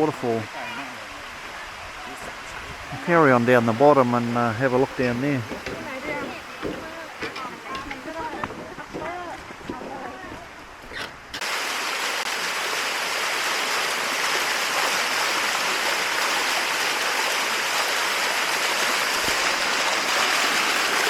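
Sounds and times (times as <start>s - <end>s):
waterfall rushing over rocks: 0.0s - 10.5s, 11.4s - 21.0s.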